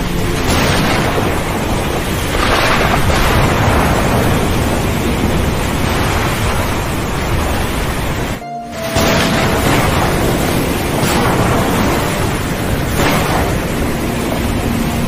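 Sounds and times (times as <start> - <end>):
waves rushing: 0.0 - 15.0
wind: 0.0 - 15.0.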